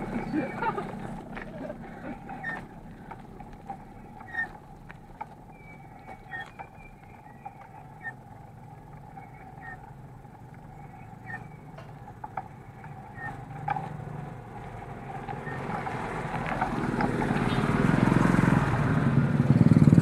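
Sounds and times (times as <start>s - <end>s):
bike clicks and rattles: 0.0s - 18.8s
bike tyres on wet road: 0.0s - 20.0s.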